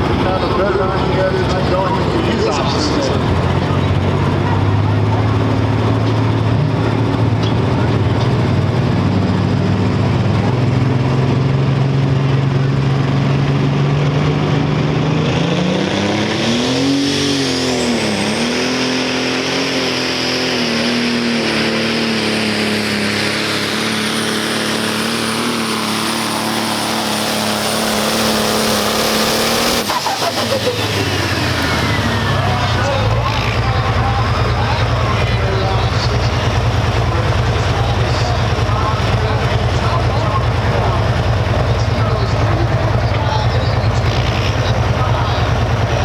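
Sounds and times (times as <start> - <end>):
tractor engine revving: 0.0 - 46.0.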